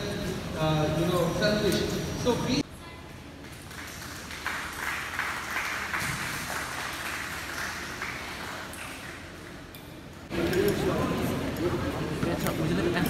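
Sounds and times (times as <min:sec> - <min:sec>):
indistinct crowd noise: 0:00.0 - 0:13.0.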